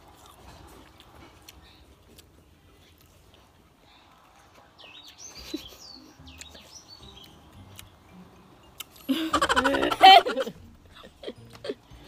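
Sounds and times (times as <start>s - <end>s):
birds chirping faintly: 1.0s - 12.0s.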